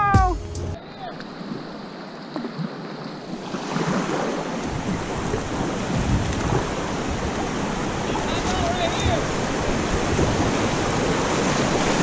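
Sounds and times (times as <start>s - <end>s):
rushing river water: 0.7s - 12.0s.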